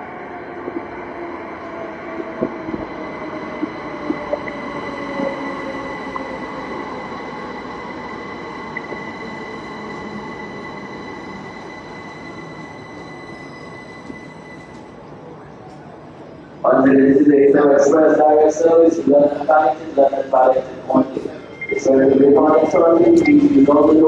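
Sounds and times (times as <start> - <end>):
electric train rumble and whine: 0.0 - 24.0.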